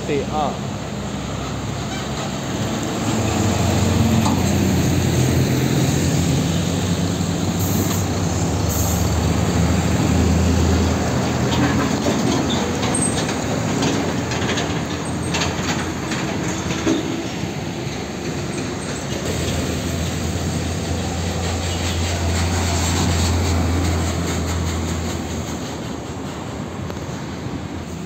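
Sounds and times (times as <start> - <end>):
diesel trucks and traffic passing: 0.0 - 28.0
tyre and road noise: 0.0 - 28.0.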